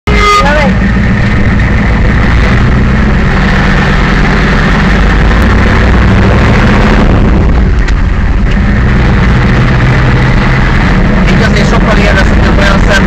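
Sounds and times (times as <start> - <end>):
loud truck engine running: 0.1 - 13.0.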